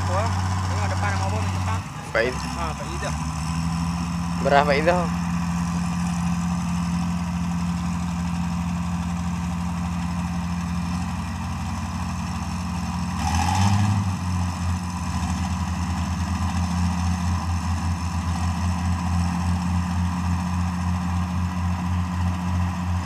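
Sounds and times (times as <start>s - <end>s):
diesel engines running and revving: 0.0s - 23.0s.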